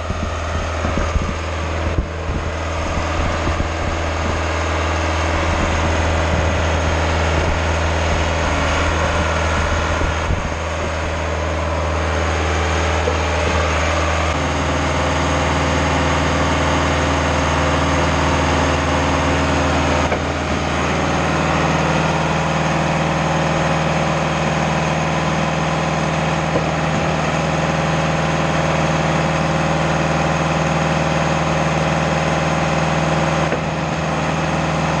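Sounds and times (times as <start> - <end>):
concrete pump engine hum: 0.0 - 35.0.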